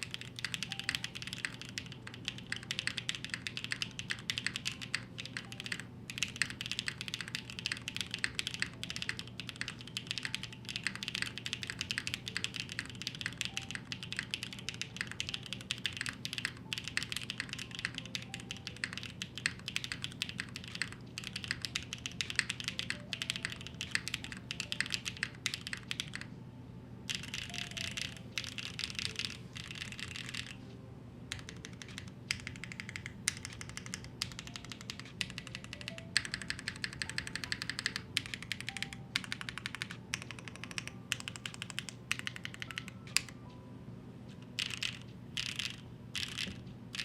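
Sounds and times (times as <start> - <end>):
fast typing on mechanical keyboard: 0.0 - 26.3, 27.1 - 30.6, 31.3 - 43.4, 44.4 - 47.0.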